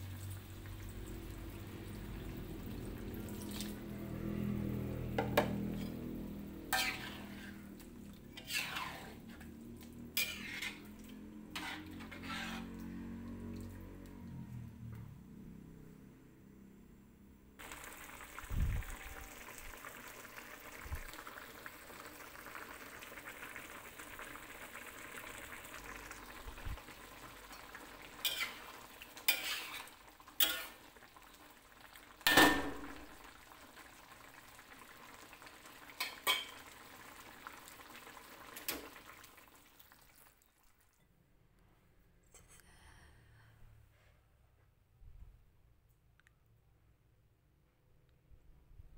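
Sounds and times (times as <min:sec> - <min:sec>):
food simmering in a wok: 0:00.0 - 0:16.8, 0:17.5 - 0:41.0.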